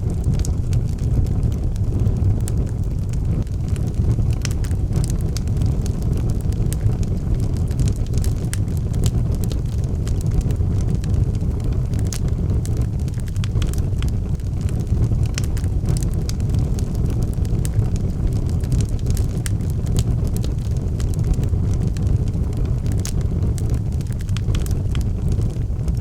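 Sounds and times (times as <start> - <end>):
wood fire burning: 0.0 - 26.0.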